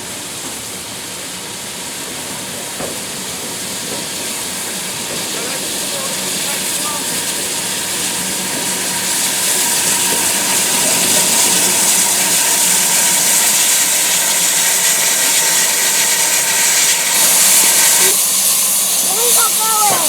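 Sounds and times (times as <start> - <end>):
steam locomotive hissing: 0.0 - 20.0.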